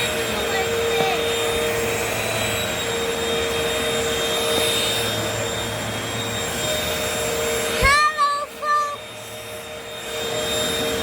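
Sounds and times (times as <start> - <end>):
vacuum cleaners humming: 0.0 - 11.0.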